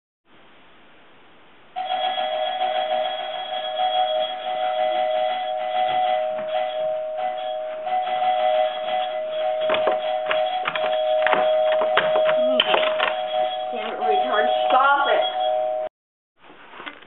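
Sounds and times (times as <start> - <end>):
electric doorbell buzzing: 1.8 - 15.9.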